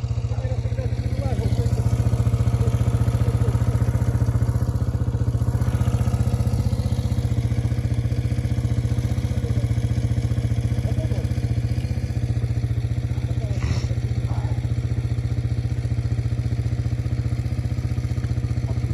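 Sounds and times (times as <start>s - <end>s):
vehicle engine idling: 0.0s - 18.9s.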